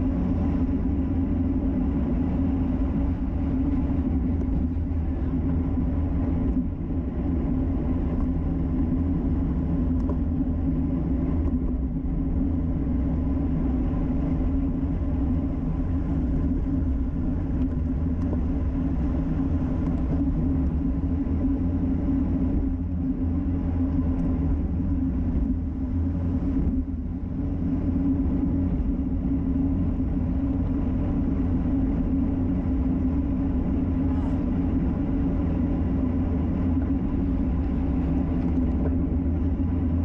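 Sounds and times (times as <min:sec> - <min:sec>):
tyre-on-road noise: 0:00.0 - 0:40.0.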